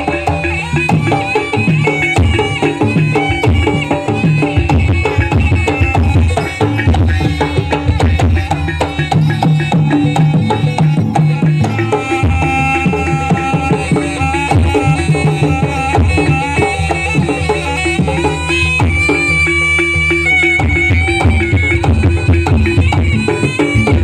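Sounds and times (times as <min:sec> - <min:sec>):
gamelan ensemble playing: 0:00.0 - 0:24.0
hand drum strokes: 0:00.0 - 0:24.0.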